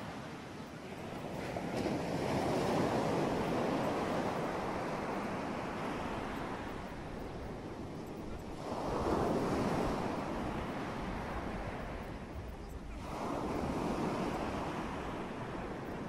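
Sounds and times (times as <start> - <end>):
ocean waves washing in: 0.0 - 12.3, 12.9 - 16.0.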